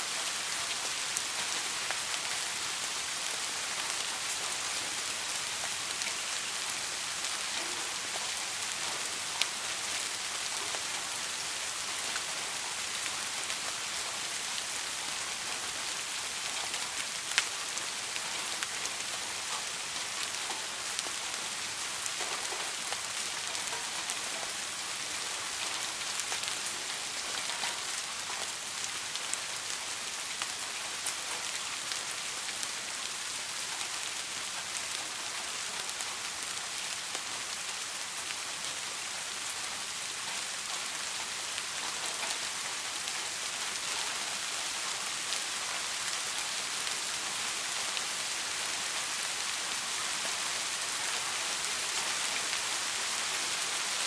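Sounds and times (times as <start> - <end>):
rain on a hard surface: 0.0 - 54.0.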